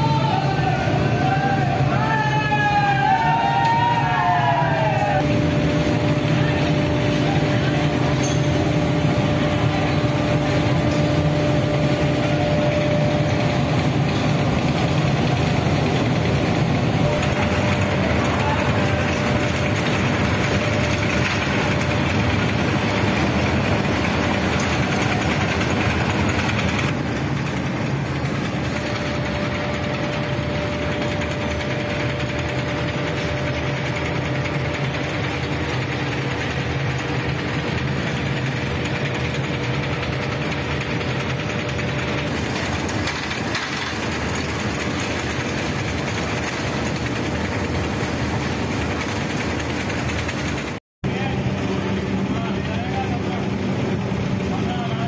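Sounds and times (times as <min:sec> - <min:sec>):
machine gears and pulleys turning: 0:00.0 - 0:55.0.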